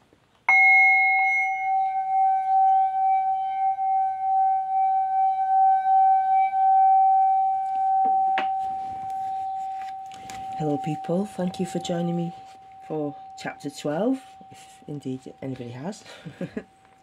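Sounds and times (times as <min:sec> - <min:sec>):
singing bowl ringing: 0:00.5 - 0:17.0.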